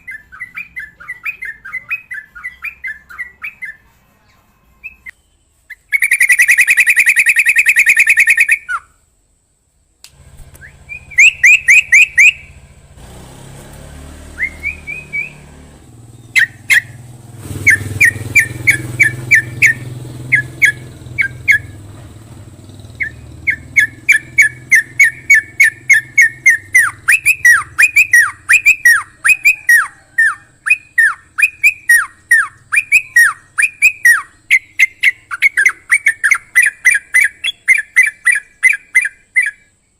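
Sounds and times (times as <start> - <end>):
bird singing trills and chirps: 0.0 - 9.1, 10.4 - 12.8, 14.2 - 39.9.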